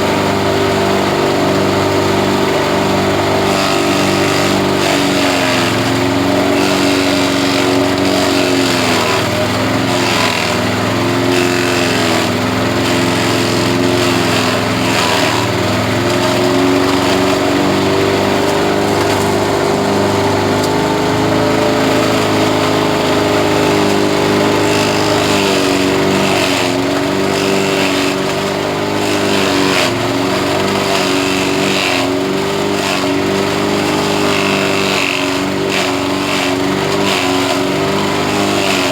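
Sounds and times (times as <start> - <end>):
grass chopper engine running: 0.0 - 38.9.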